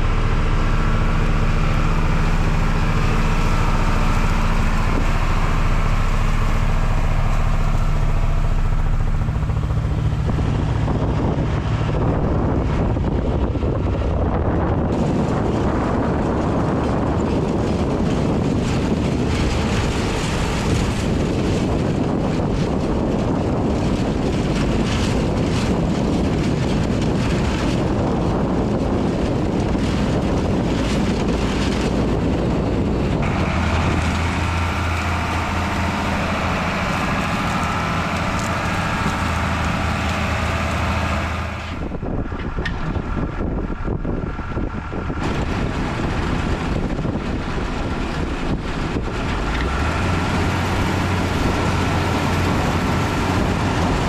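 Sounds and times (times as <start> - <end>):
tractor engine running: 0.0 - 54.0
wind buffeting microphone: 0.0 - 54.0.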